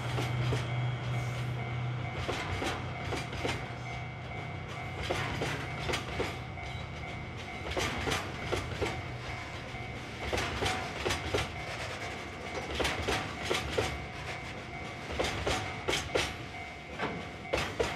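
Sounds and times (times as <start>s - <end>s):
train wheels clicking over rail joints: 0.0s - 17.9s.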